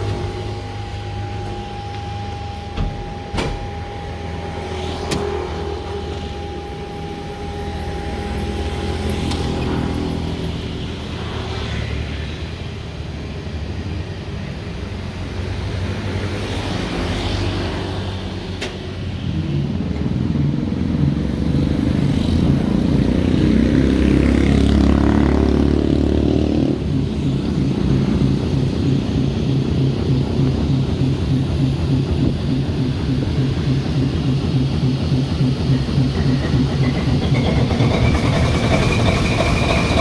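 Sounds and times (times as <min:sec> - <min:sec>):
locomotive engine throbbing: 0:00.0 - 0:40.0.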